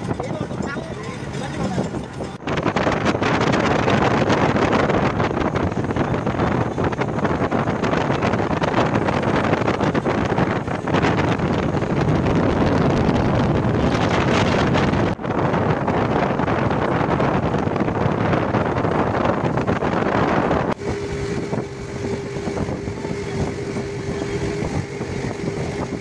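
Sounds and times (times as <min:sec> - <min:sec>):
speedboat engine running: 0:00.0 - 0:26.0
water rushing along hull: 0:00.0 - 0:26.0
wind buffeting microphone: 0:00.0 - 0:26.0.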